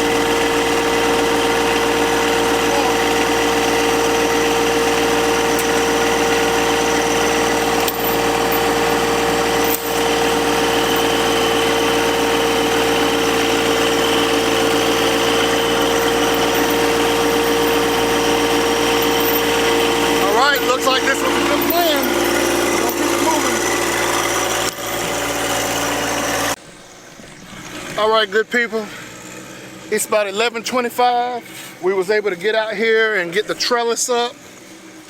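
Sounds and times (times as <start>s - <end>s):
engine humming steadily: 0.0s - 35.0s.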